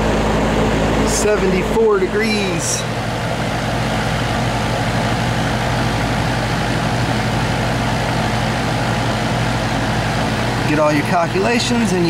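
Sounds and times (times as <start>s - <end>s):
compressor hum: 0.0s - 12.0s
fan rushing: 0.0s - 12.0s.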